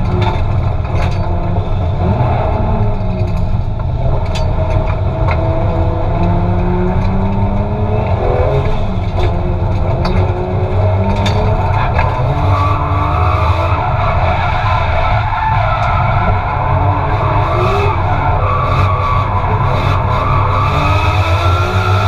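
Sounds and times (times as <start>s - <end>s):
turbocharged engine revving: 0.0s - 22.0s.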